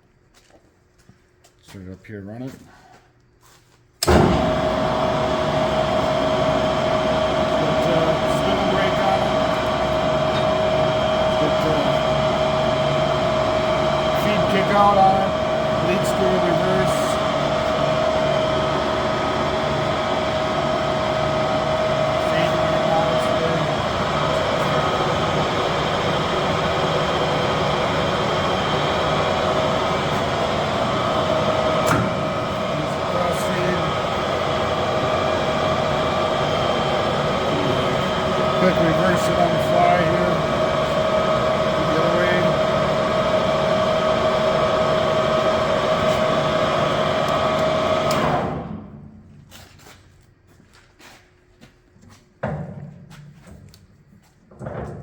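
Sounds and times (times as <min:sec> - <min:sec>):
lathe running: 0:04.0 - 0:48.8.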